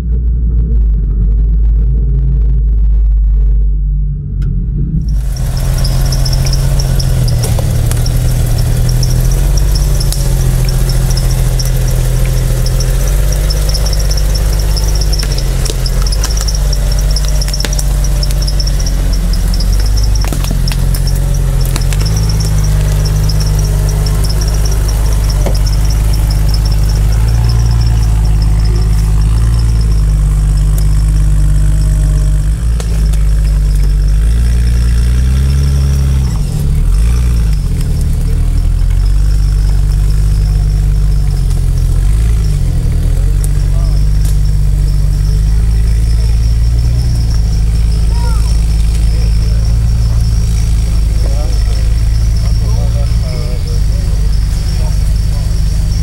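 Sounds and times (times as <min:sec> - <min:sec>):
steady high whine: 0:03.7 - 0:56.0
engine running under load: 0:04.4 - 0:56.0.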